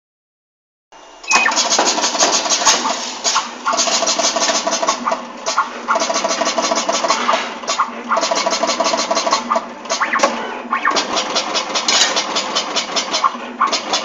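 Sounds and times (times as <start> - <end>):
machine rapid mechanical rattle: 1.4 - 14.0.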